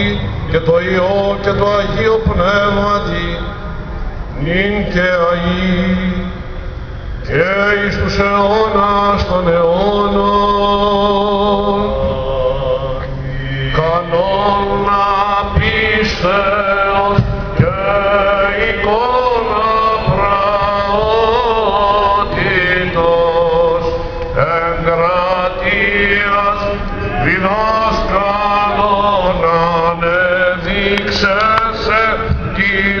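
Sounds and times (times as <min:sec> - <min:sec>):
low sung drone: 0:00.0 - 0:33.0
men chanting ornamented melody: 0:00.0 - 0:33.0.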